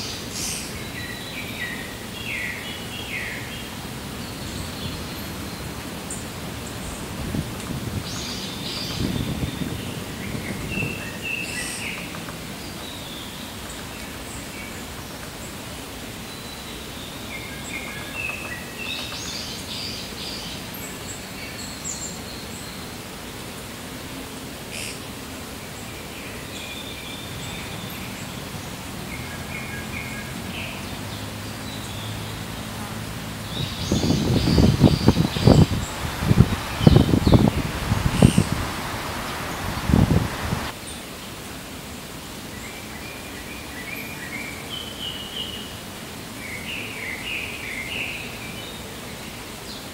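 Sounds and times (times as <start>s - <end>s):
wind rumbling and rustling: 0.0s - 42.4s
outdoor background hiss: 0.0s - 49.9s
small birds chirping: 0.0s - 49.9s.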